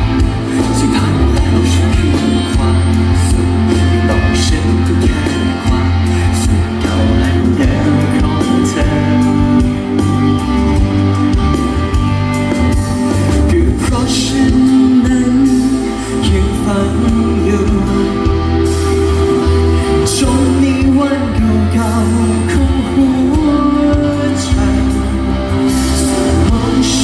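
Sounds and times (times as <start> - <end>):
band playing with singing: 0.0 - 27.0.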